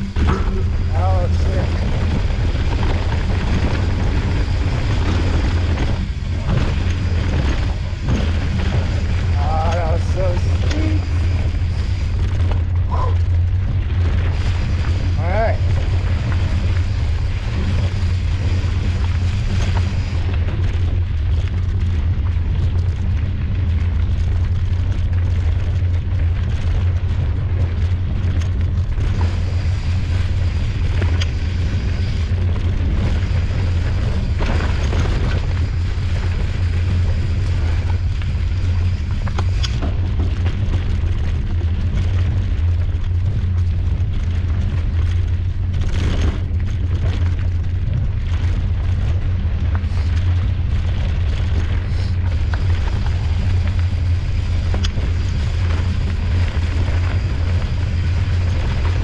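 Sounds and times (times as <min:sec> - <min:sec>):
bike knocking and rattling over rocks: 0:00.0 - 0:59.0
wind rumble on microphone: 0:00.0 - 0:59.0.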